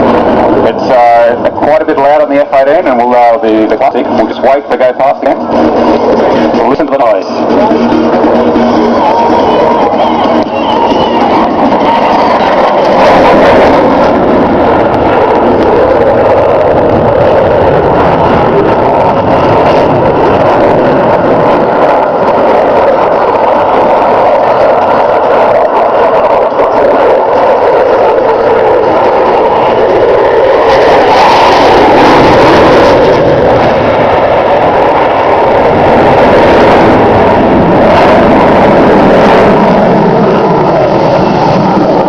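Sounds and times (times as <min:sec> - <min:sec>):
fighter jet engines roaring: 0:00.0 - 0:42.0.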